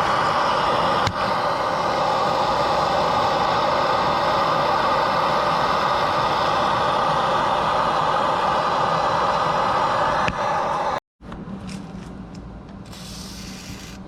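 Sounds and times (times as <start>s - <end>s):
gas torch hissing: 0.0s - 11.0s, 12.9s - 14.0s.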